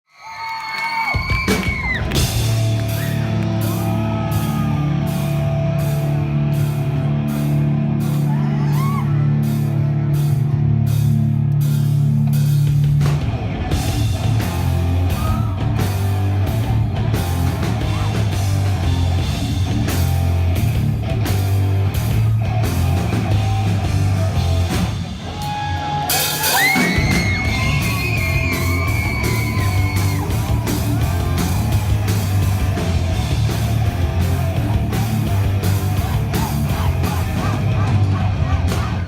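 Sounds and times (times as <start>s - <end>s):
drum kit with cymbal hits: 1.1s - 39.0s
bass line: 1.4s - 39.0s
electric guitar: 1.6s - 39.0s.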